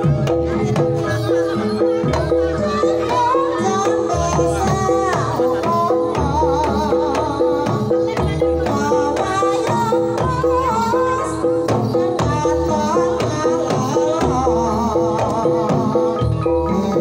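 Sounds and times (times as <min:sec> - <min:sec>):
hand drum beating: 0:00.0 - 0:17.0
keyed percussion notes: 0:00.0 - 0:17.0
woman singing ornamented melody: 0:00.0 - 0:17.0.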